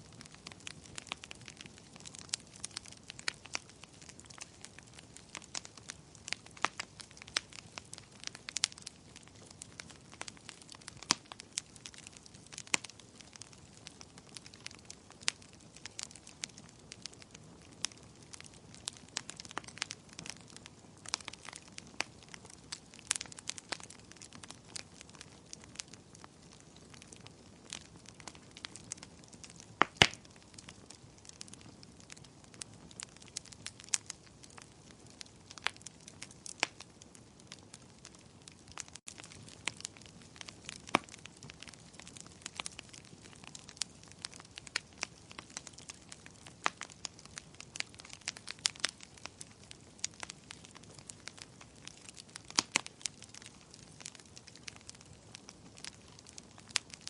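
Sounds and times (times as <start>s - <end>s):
faint steady hiss: 0.0s - 57.0s
wood fire crackling and popping: 0.0s - 57.0s.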